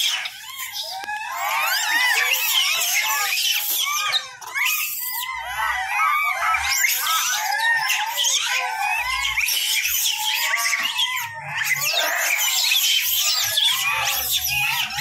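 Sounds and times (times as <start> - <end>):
monkeys squealing and screaming: 0.0 - 15.0.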